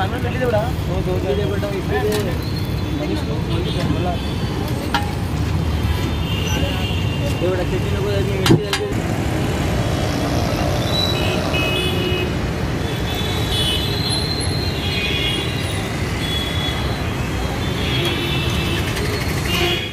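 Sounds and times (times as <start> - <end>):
road traffic noise: 0.0 - 19.9.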